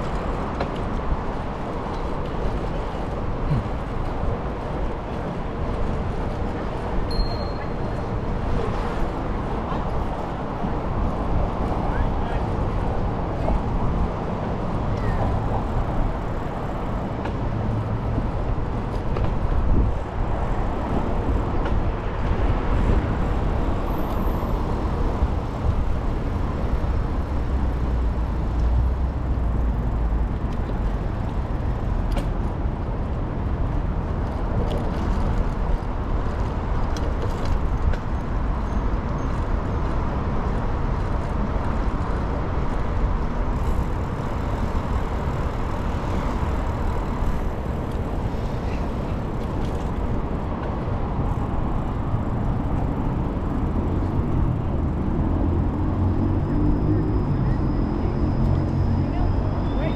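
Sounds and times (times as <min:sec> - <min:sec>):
road and street noise: 0:00.0 - 0:59.9
wind rumble on microphone: 0:07.8 - 0:59.9.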